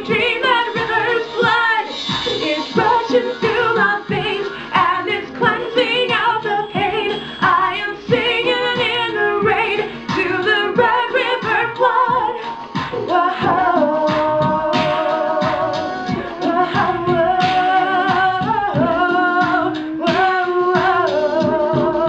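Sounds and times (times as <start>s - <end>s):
backing track with steady beat: 0.0s - 22.0s
harmony voice: 0.0s - 22.0s
woman singing with vibrato: 0.0s - 22.0s.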